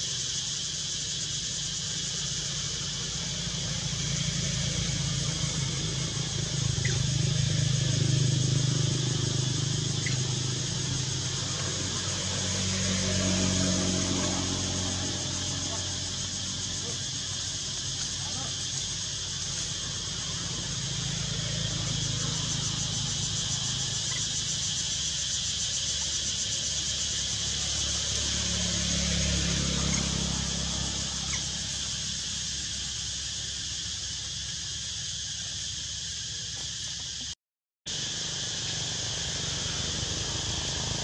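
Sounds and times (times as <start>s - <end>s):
high-pitched insect chorus: 0.0s - 41.0s
passing vehicle engine rumble: 0.0s - 41.0s.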